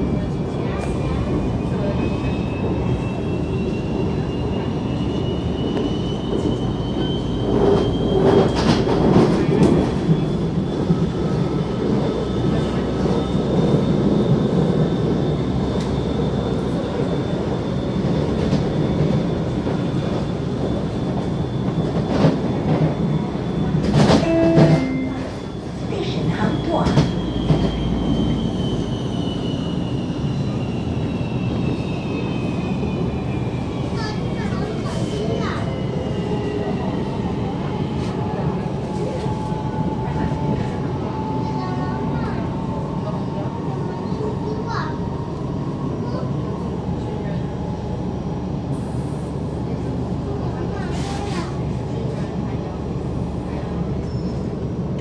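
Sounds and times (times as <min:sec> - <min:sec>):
rumble of train wheels on rail: 0:00.0 - 0:55.0
thin whine of train: 0:00.0 - 0:55.0.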